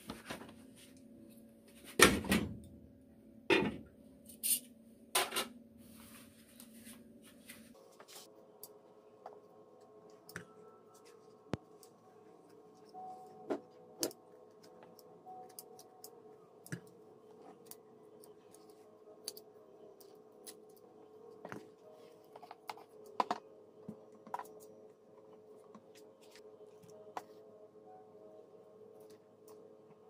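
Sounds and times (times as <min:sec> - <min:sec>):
faint steady hum: 0:02.6 - 0:30.0.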